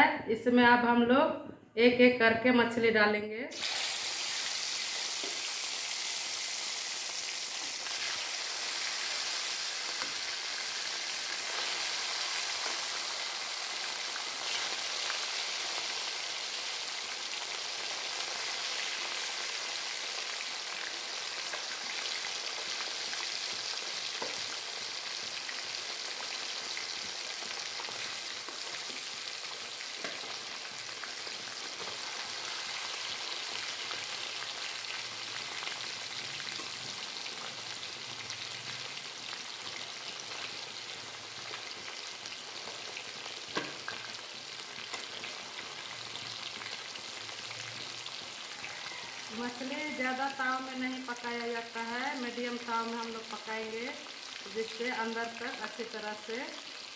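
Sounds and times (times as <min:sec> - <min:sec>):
fish sizzling in hot oil: 0:03.5 - 0:56.9.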